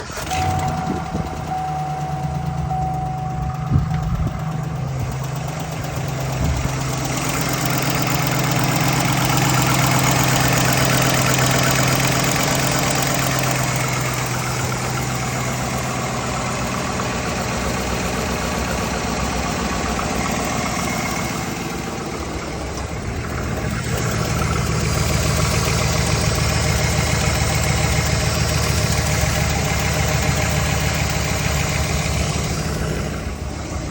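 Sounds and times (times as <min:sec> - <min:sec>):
engine idling with knocking: 0:00.0 - 0:33.9.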